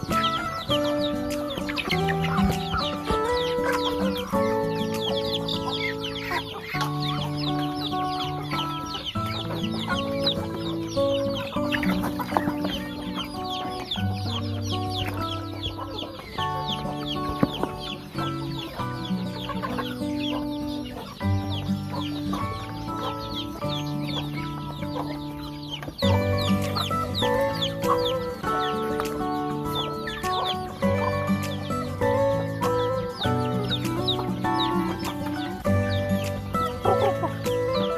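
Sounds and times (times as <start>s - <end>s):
background music of held chords: 0.0s - 37.9s
chickens clucking: 0.0s - 37.9s
chicks peeping: 0.0s - 37.9s.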